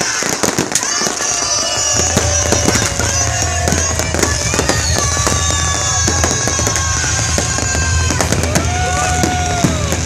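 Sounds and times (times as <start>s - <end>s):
firework whistles sliding down: 0.0s - 10.0s
fireworks popping and banging: 0.0s - 10.0s.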